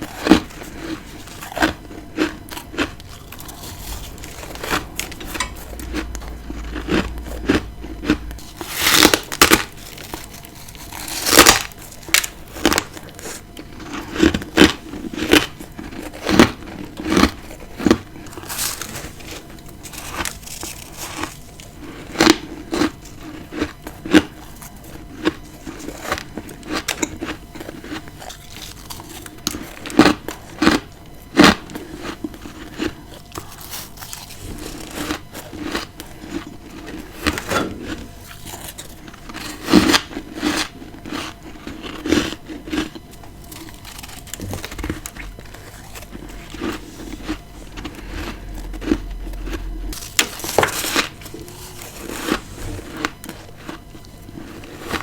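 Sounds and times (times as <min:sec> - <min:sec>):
crunchy chewing of frost: 0:00.0 - 0:55.0.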